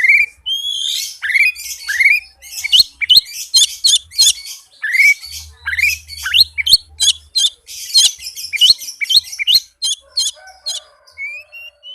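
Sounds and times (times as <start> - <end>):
magpie-robin singing: 0.0 - 11.9.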